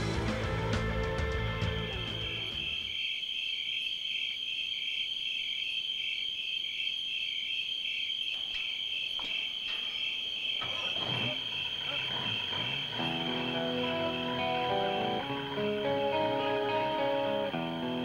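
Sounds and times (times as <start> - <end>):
crickets chirping: 1.4 - 18.0.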